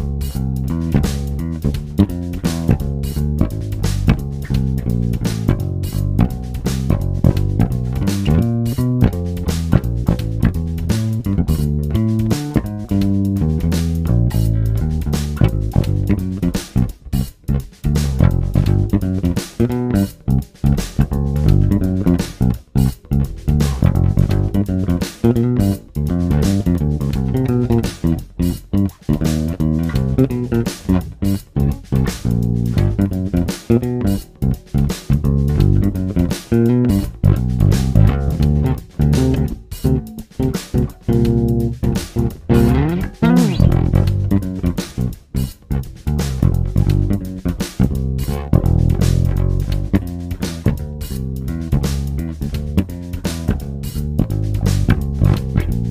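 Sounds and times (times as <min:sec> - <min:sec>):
electric bass plucked notes: 0:00.0 - 0:55.9.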